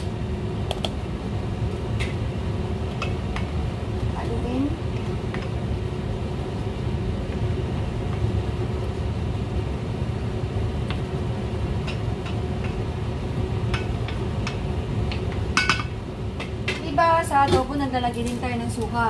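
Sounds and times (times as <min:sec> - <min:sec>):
low kitchen rumble and hum: 0:00.0 - 0:19.0.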